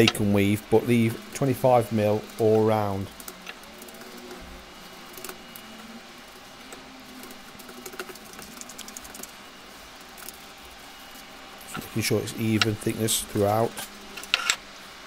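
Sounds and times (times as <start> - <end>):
cling film crinkling and clicking: 1.2 - 14.5.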